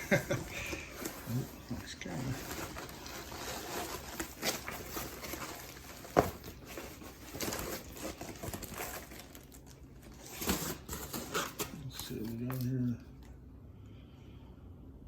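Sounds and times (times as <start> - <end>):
packaging rustling and scraping: 0.0 - 12.8.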